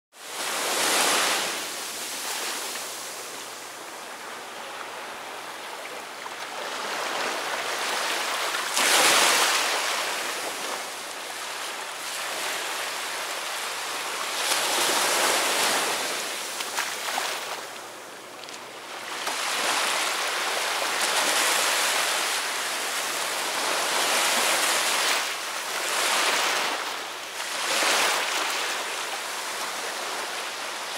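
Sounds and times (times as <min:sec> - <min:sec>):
small waves washing over sand: 0:00.2 - 0:30.9.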